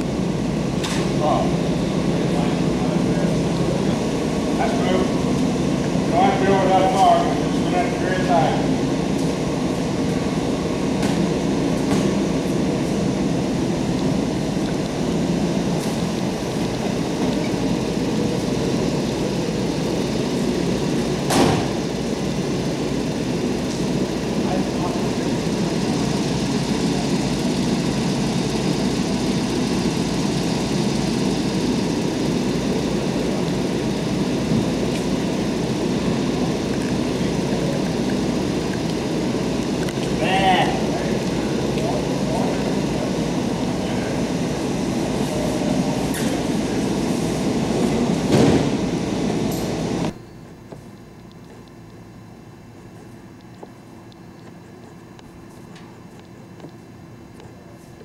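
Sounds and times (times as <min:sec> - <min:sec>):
engine idling: 0:00.0 - 0:57.8.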